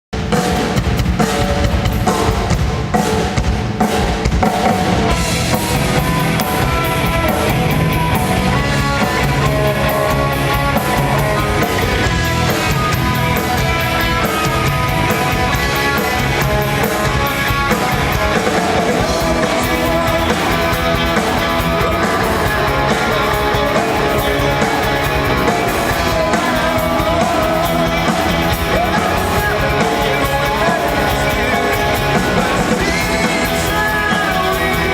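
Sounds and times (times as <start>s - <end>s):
drum kit beat: 0.1s - 34.9s
rock band playing live: 0.1s - 34.9s
electric guitar: 0.3s - 34.9s.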